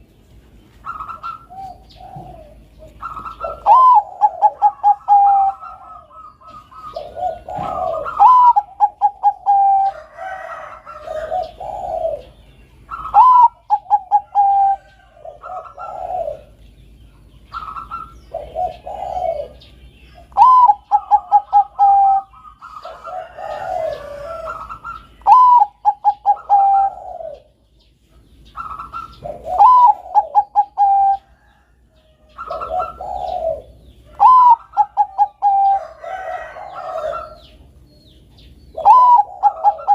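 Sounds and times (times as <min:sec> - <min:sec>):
dove cooing: 0:00.7 - 0:39.9.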